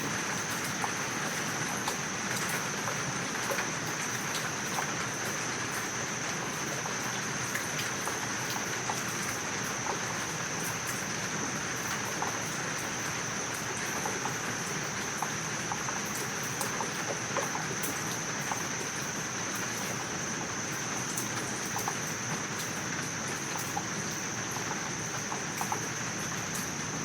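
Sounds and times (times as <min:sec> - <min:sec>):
raindrops ticking: 0:00.0 - 0:27.0
steady rain falling: 0:00.0 - 0:27.0.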